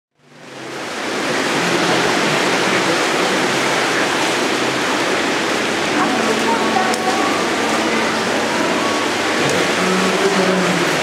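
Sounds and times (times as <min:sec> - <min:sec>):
shopping centre ambience: 0:01.6 - 0:11.0.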